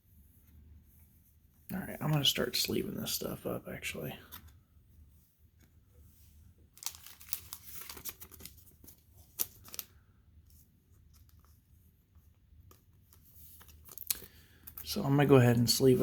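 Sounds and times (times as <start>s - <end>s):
plastic sleeves rustling: 0.2s - 16.0s.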